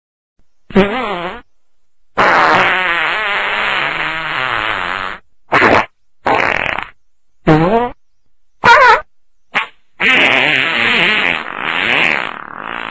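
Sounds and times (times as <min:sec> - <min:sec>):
farting: 0:00.7 - 0:01.5, 0:02.2 - 0:08.0, 0:08.7 - 0:12.9.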